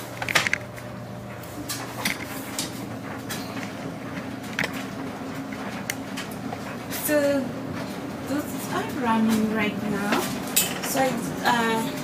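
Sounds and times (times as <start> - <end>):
laundry machines humming: 0.0 - 12.0.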